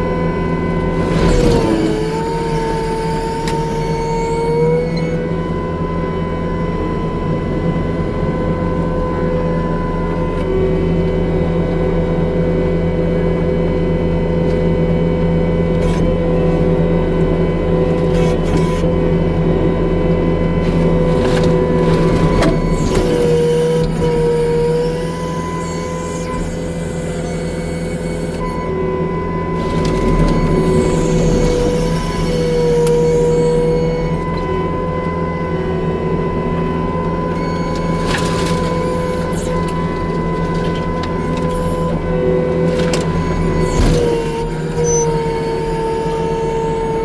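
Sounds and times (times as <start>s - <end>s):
diesel engine running hard: 0.0s - 47.0s
steady mechanical whine: 0.0s - 47.0s.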